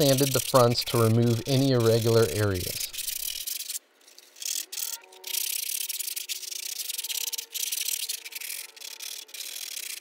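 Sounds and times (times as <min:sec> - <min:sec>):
abrasive rubbing: 0:00.0 - 0:10.0
rotary tool sanding plastic: 0:00.0 - 0:10.0.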